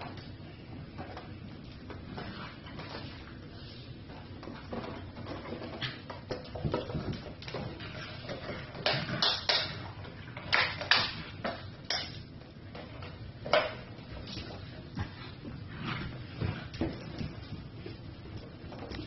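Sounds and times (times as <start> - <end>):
puppies scuffling: 0.0 - 19.0.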